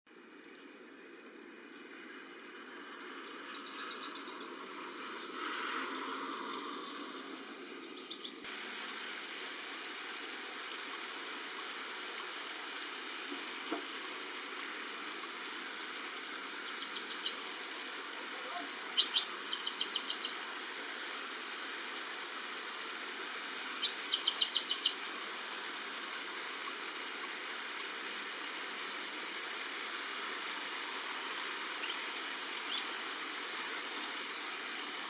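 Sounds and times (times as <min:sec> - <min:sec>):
steady rain falling: 0:00.1 - 0:35.0.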